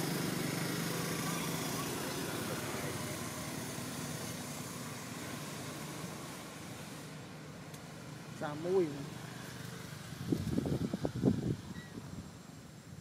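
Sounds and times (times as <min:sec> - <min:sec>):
distant vehicle engine hum: 0:00.0 - 0:13.0
steady outdoor hiss: 0:00.0 - 0:13.0.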